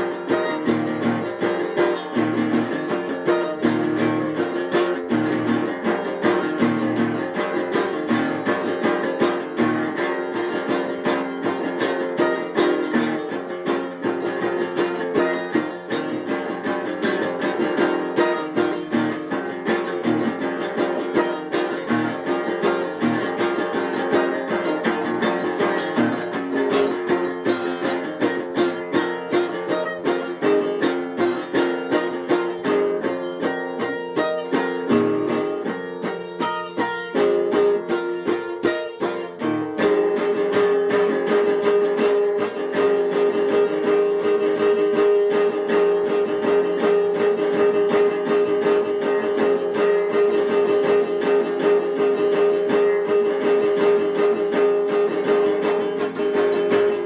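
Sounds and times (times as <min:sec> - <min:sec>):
rapidly plucked string music: 0:00.0 - 0:57.0.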